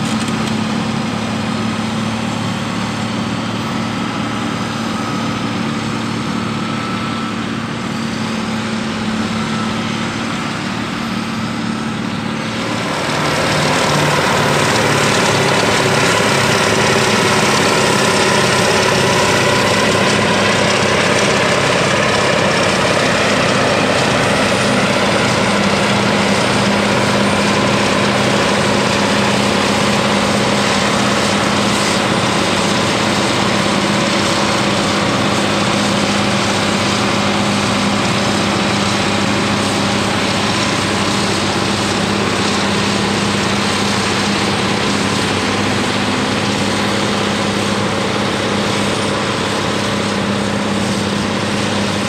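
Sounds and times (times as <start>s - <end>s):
diesel engines droning under load: 0.0s - 52.0s.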